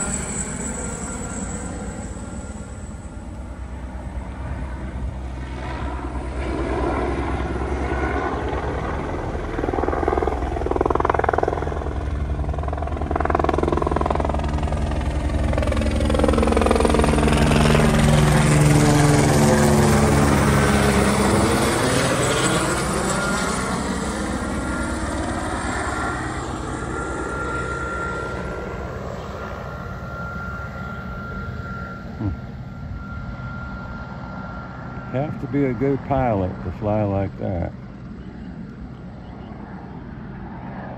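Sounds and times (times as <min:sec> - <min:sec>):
helicopter rotor beating: 0:00.0 - 0:40.9.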